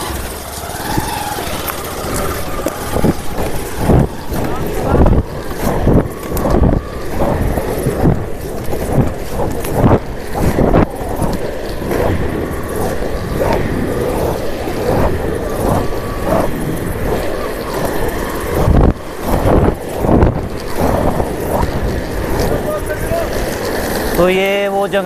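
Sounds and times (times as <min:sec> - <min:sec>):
wind buffeting microphone: 0:00.0 - 0:24.9
rumbling road noise: 0:00.0 - 0:25.0.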